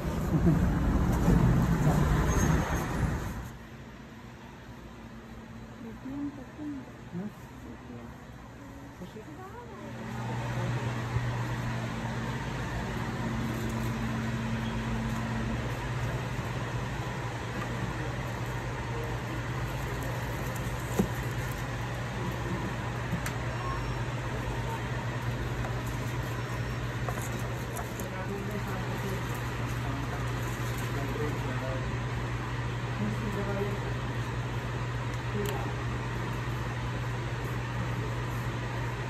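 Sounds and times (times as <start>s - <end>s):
appliance humming with faint hiss: 0.0s - 39.0s.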